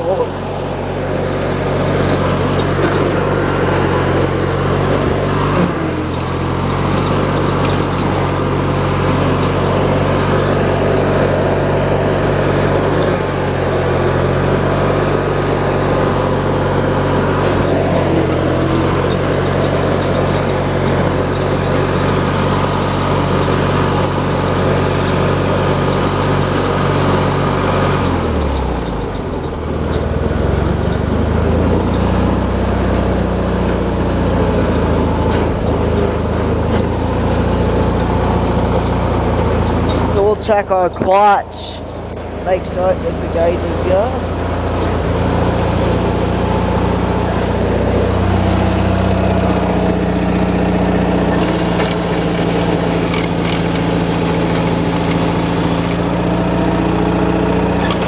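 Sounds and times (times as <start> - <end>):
drive whine: 0.0 - 58.0
riding lawn mower engine: 0.0 - 58.0.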